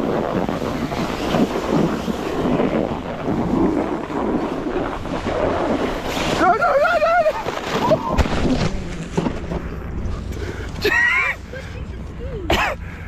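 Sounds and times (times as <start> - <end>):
wind buffeting microphone: 0.0 - 10.9
snowboard scraping over snow: 0.0 - 11.2.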